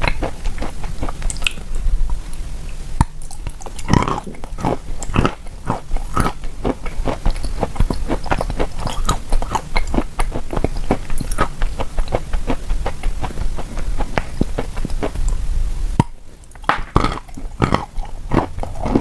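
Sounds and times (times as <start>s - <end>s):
chewing crunchy chalk: 0.0s - 15.4s, 16.5s - 19.0s.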